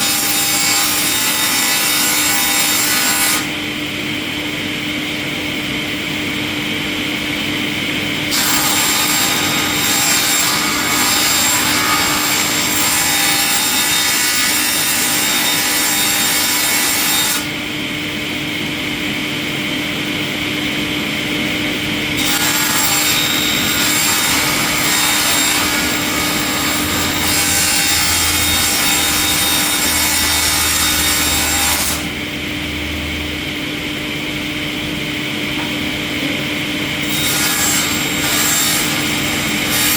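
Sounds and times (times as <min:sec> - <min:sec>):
machine humming: 0:03.6 - 0:39.9.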